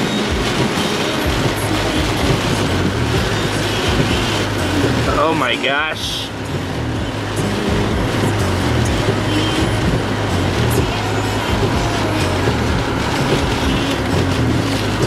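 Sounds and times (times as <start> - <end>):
rain hitting car roof: 0.0 - 15.0
tyres on wet road: 0.0 - 15.0
low rumble: 0.3 - 5.2, 6.0 - 15.0.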